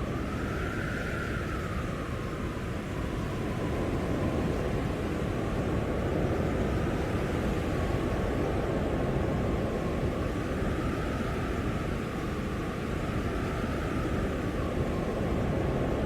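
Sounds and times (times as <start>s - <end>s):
strong blizzard wind: 0.0s - 16.0s.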